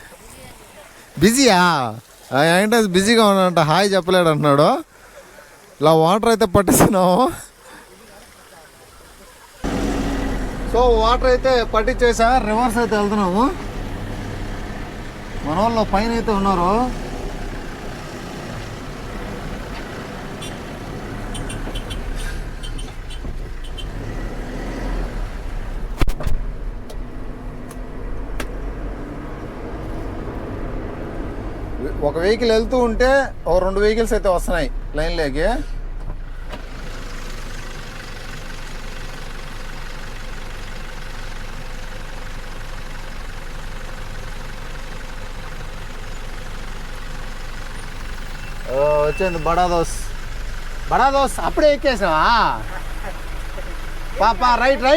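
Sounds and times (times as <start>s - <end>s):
truck engine low rumble: 9.6s - 54.9s.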